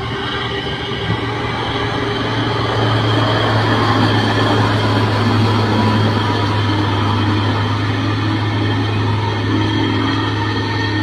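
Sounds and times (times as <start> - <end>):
heavy diesel engines droning: 0.0 - 11.0.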